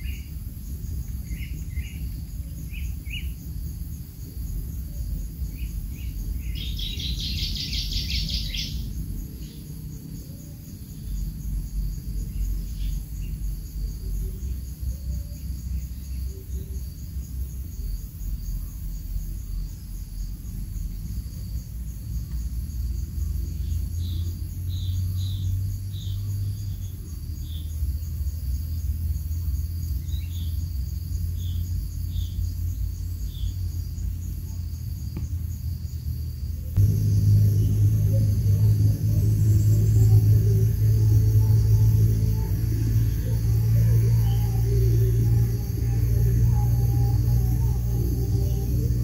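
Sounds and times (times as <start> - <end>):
insects trilling: 0.0 - 49.0
low steady rumble: 0.0 - 49.0.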